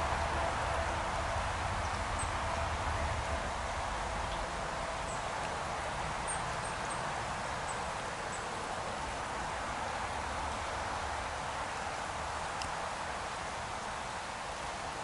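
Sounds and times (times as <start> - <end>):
stream rushing over gravel: 0.0 - 15.0.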